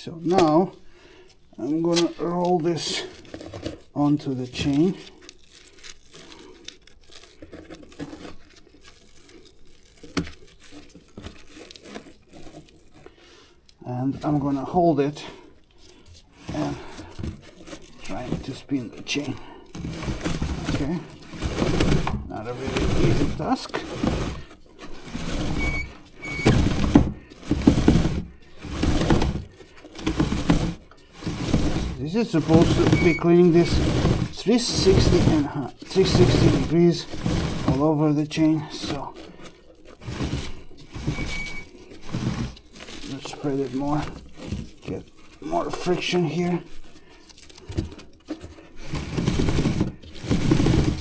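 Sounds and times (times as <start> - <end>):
rustling handling noise: 0.0 - 51.0.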